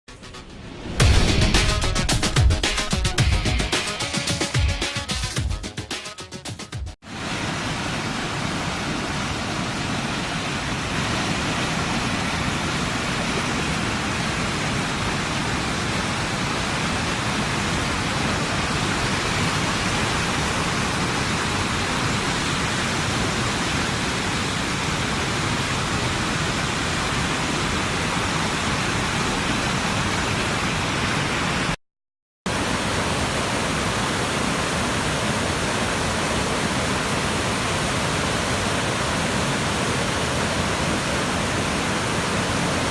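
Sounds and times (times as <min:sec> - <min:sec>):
floodwater rushing: 0:07.0 - 0:31.8, 0:32.5 - 0:42.9.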